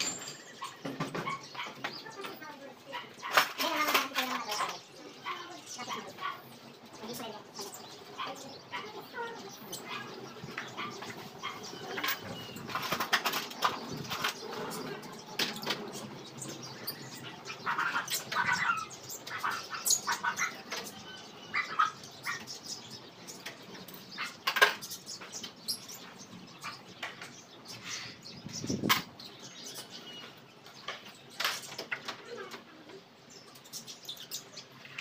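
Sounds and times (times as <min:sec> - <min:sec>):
caged birds chirping: 0:00.0 - 0:35.0.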